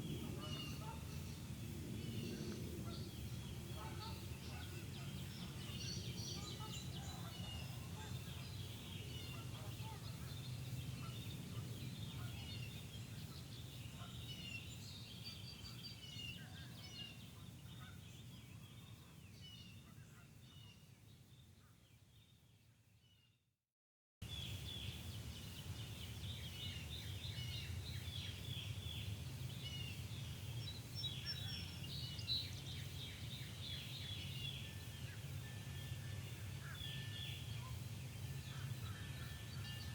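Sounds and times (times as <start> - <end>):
birds chirping and trilling: 0.0 - 22.4, 24.2 - 39.9.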